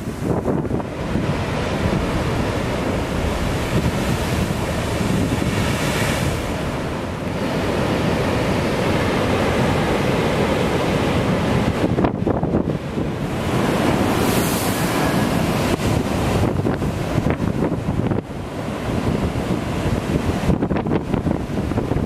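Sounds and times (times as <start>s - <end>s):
heavy surf breaking on rocks: 0.0s - 22.0s
wind rumbling on microphone: 0.0s - 22.0s.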